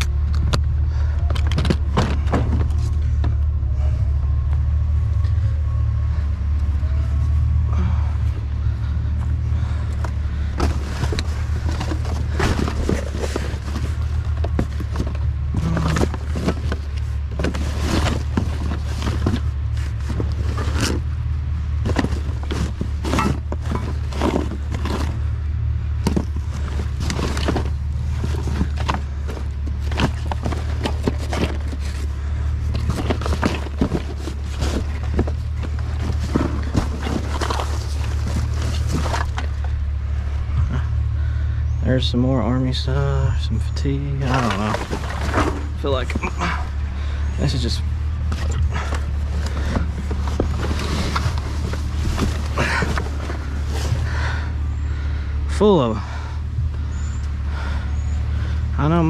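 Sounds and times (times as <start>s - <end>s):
low hum: 0.0s - 59.0s
rummaging through clothing and gear: 0.0s - 59.0s.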